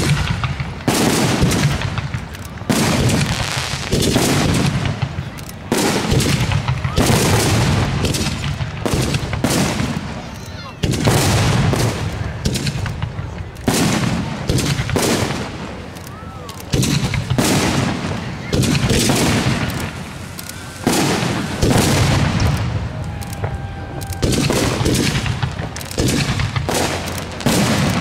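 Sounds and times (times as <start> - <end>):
firework shells booming: 0.0 - 16.0, 16.6 - 28.0.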